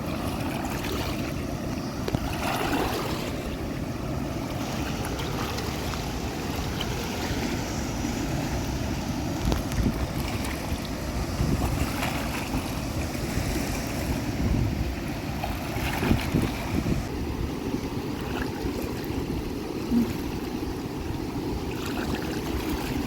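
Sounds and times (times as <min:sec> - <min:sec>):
water rushing: 0:00.0 - 0:23.0
wind rumble on microphone: 0:00.0 - 0:23.0.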